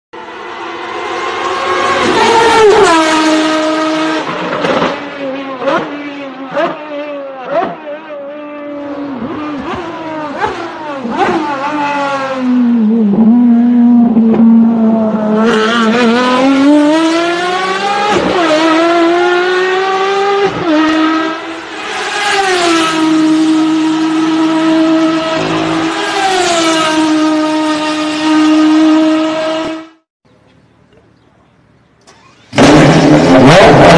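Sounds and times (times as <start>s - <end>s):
race car engine at high revs: 0.2s - 30.1s, 32.0s - 33.9s.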